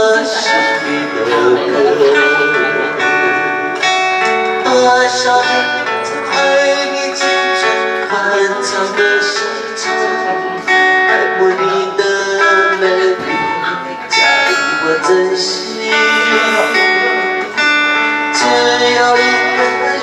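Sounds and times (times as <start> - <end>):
acoustic guitar plucked and strummed: 0.0 - 20.0.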